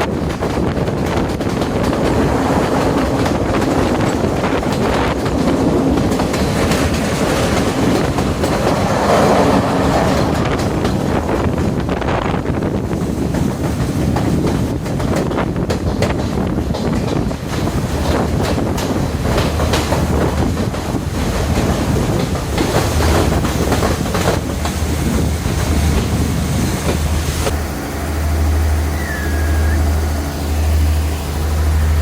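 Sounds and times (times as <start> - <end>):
diesel train rumbling: 0.0 - 32.0
wheels clattering over rail joints: 0.0 - 32.0.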